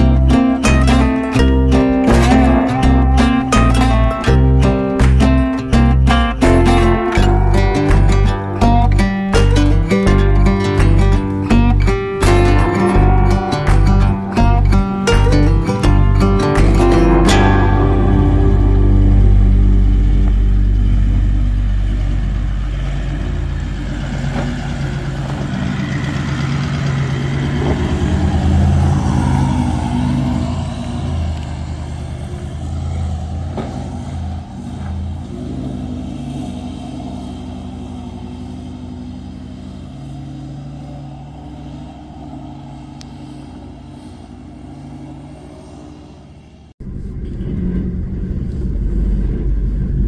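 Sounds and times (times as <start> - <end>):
vehicle engine crawling: 0.0 - 50.0.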